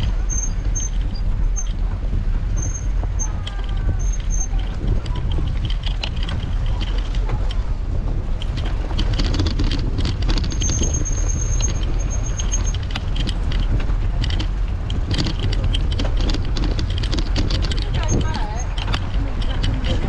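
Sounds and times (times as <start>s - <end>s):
bike rattling over stone paving: 0.0s - 20.0s
wind buffeting microphone: 0.0s - 20.0s.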